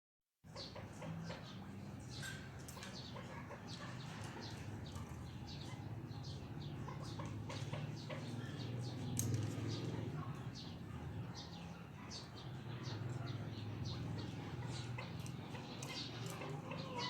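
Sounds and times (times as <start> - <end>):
partridges chirping: 0.5 - 17.0.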